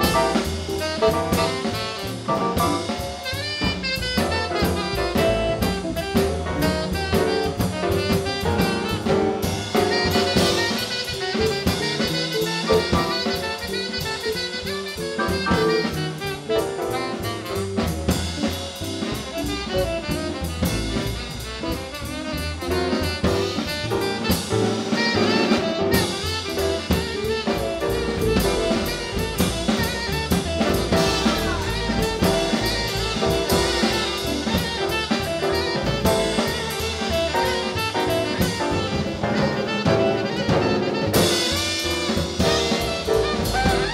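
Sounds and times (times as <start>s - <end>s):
drum kit with cymbals: 0.0s - 43.9s
saxophone solo: 0.0s - 43.9s
upright bass: 0.0s - 43.9s.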